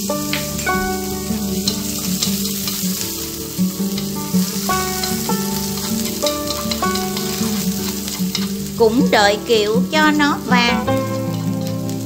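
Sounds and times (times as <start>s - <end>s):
food sizzling in oil: 0.0s - 12.0s
soft background music: 0.0s - 12.0s.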